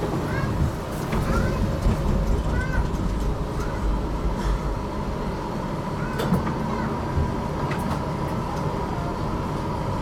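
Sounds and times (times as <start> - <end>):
tram rumbling along track: 0.0 - 10.0.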